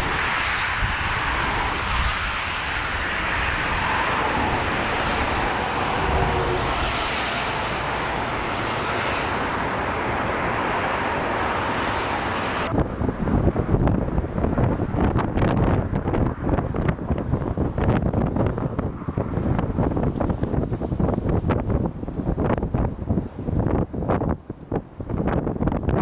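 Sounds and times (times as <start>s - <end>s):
airliner landing roar: 0.0s - 26.0s
wind buffeting microphone: 0.0s - 26.0s.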